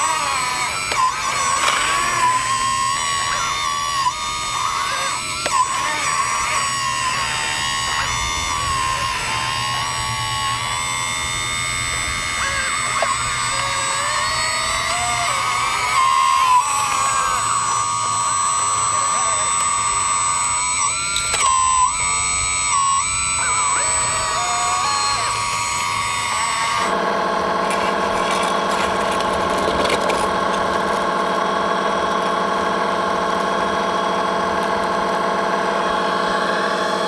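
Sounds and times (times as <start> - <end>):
electric motors and hydraulic pumps whining: 0.0 - 37.0
steady low hum: 0.0 - 37.0.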